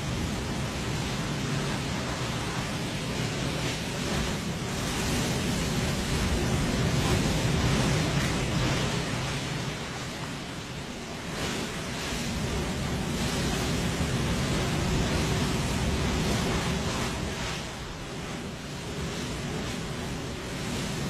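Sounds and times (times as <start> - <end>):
surf washing on beach: 0.0 - 21.0
wind on microphone: 0.0 - 21.0.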